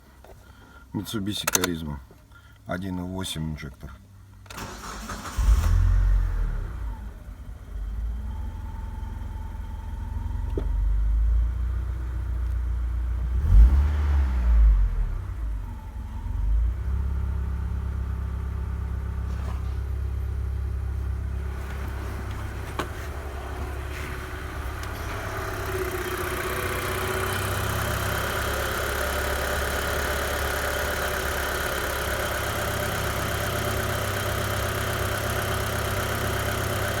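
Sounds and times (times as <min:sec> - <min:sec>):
car engine starting and revving: 0:04.5 - 0:37.0.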